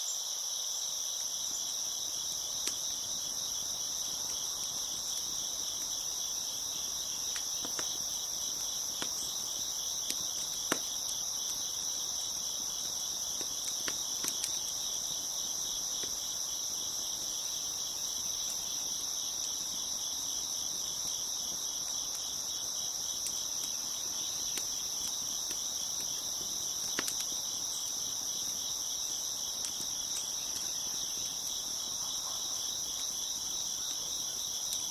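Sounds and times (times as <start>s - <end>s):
crickets chirping: 0.0s - 34.9s
wood fire crackling and popping: 1.4s - 34.9s.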